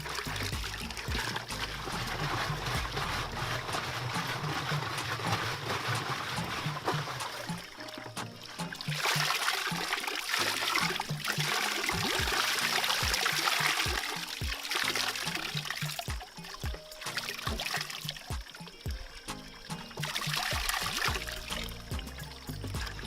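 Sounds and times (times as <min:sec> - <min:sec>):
music with repeating bass line: 0:00.0 - 0:23.0
water running and trickling: 0:00.0 - 0:23.0.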